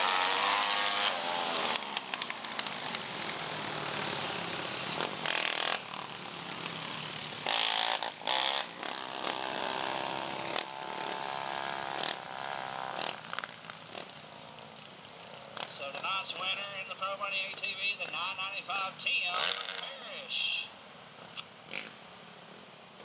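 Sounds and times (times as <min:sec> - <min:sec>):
racing atv engines revving: 0:00.0 - 0:20.6, 0:21.2 - 0:22.0.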